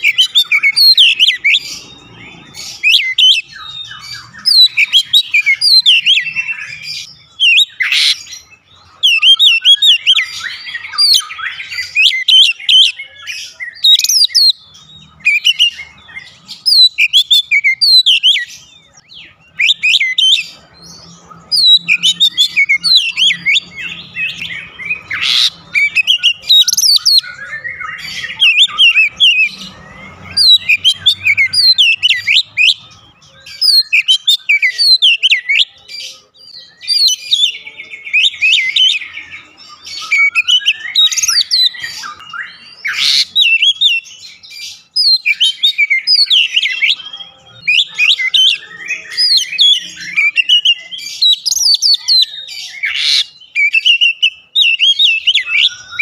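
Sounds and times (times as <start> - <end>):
songbird whistling and chirping: 0.0 - 56.0.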